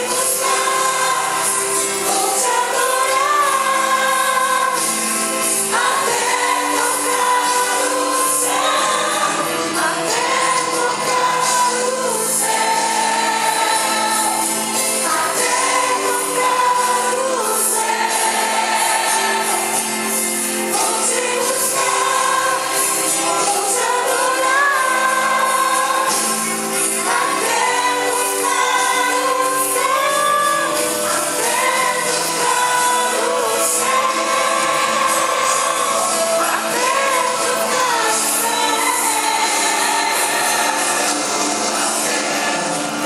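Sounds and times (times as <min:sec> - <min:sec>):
gospel song with sung vocals: 0:00.0 - 0:43.0.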